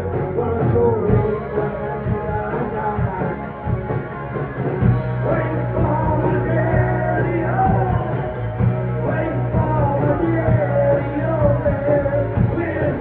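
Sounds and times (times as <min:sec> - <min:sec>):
man singing: 0:00.0 - 0:03.6, 0:05.2 - 0:08.4, 0:09.0 - 0:13.0
bass guitar: 0:00.0 - 0:13.0
drums: 0:00.0 - 0:13.0
electric guitar: 0:00.0 - 0:13.0.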